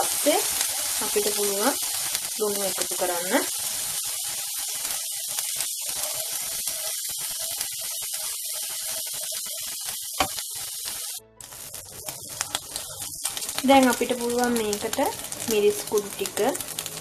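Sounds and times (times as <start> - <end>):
egg sizzling in hot oil: 0.0 - 17.0.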